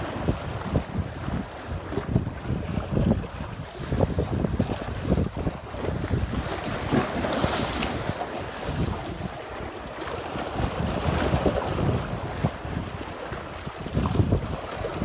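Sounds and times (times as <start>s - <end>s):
sea surf breaking on concrete: 0.0s - 15.0s
wind buffeting microphone: 0.0s - 15.0s.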